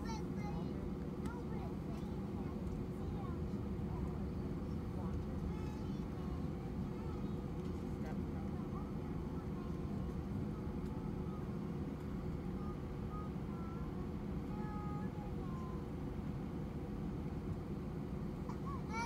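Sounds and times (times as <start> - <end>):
aircraft cabin rumble: 0.0 - 19.0
constant hum: 0.0 - 19.0.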